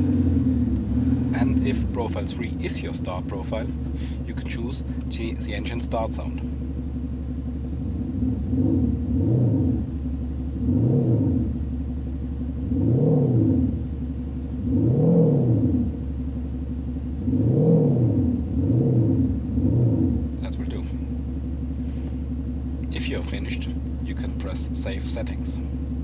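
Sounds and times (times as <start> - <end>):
car engine throttle blips: 0.0 - 26.0.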